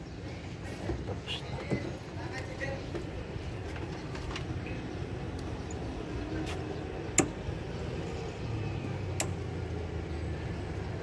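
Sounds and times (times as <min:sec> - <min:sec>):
vehicle low rumble: 0:00.0 - 0:11.0.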